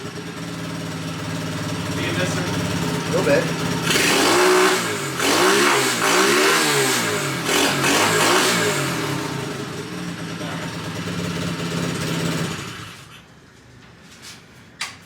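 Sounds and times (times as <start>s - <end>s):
dirt bike engine revving and idling: 0.0s - 13.3s.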